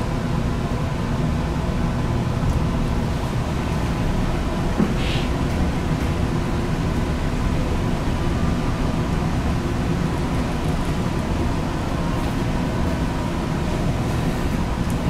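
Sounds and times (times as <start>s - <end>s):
faint constant hum: 0.0s - 15.0s
ship engines rumbling: 0.0s - 15.0s.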